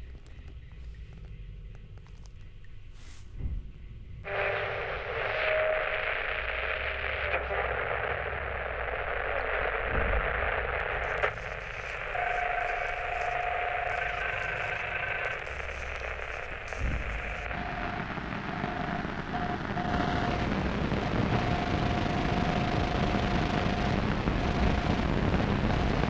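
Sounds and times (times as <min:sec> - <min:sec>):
radio static hiss: 0:02.0 - 0:03.4, 0:04.2 - 0:26.0.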